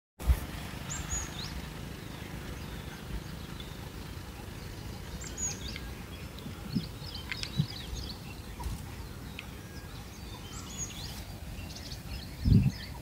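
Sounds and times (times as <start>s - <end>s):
steady low rumble: 0.2s - 13.0s.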